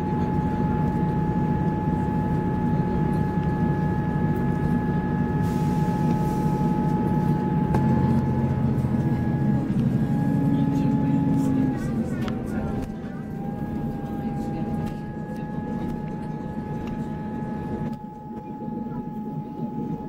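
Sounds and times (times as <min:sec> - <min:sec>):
high-pitched transmission whine: 0:00.0 - 0:20.0
train engine hum: 0:00.0 - 0:20.0.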